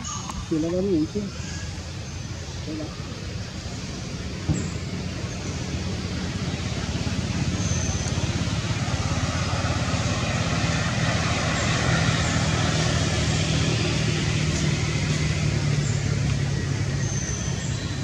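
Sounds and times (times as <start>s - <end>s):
road noise: 0.0s - 18.0s
vehicle engine hum: 0.0s - 18.0s.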